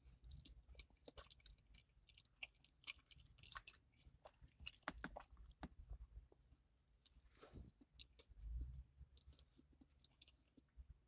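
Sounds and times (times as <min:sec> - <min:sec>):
person chewing a sandwich: 0:00.0 - 0:11.0.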